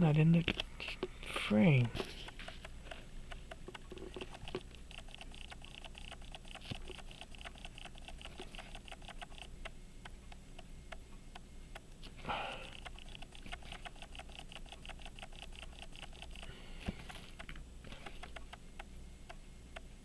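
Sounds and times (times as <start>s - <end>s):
light ticks and small clicks: 0.0s - 20.0s
low steady hum: 0.0s - 20.0s.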